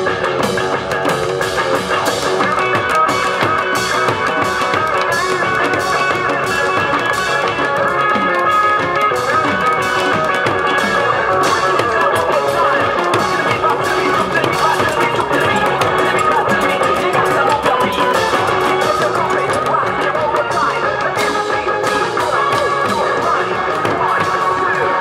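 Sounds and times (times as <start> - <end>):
fast backing track: 0.0 - 25.0.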